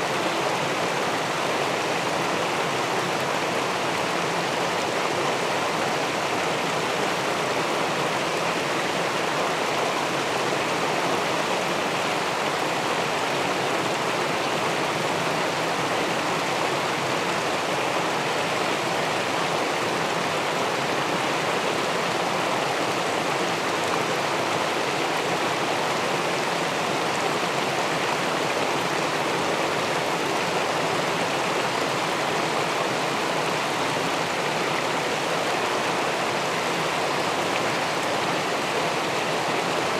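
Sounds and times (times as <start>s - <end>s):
river water rushing over weir: 0.0s - 39.9s.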